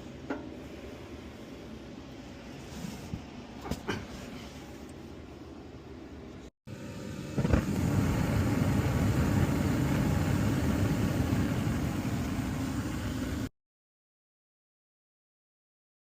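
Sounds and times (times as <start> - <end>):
gas furnace low rumble: 0.0 - 13.5.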